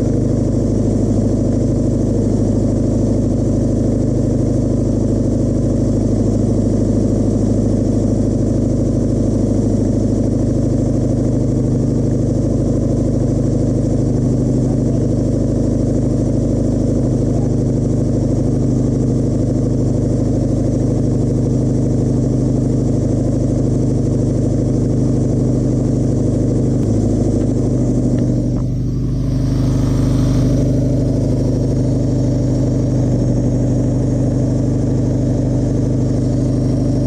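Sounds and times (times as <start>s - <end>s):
car engine running steadily: 0.0s - 37.0s.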